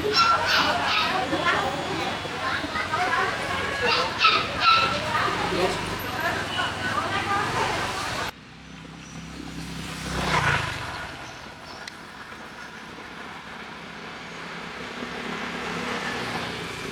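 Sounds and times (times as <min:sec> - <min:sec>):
low traffic hum: 0:00.0 - 0:16.9
motorbike engine passing: 0:00.0 - 0:16.9.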